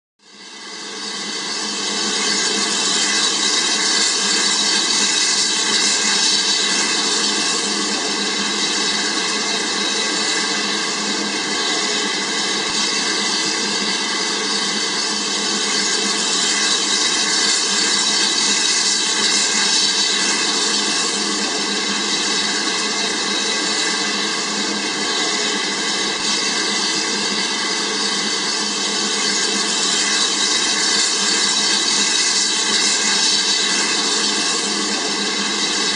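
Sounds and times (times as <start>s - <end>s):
model train motor whirring: 1.2s - 35.9s.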